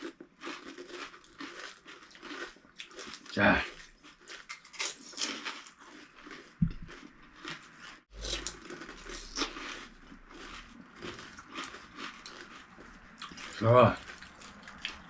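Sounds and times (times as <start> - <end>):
crisp shells crunching when chewed: 0.0 - 15.0.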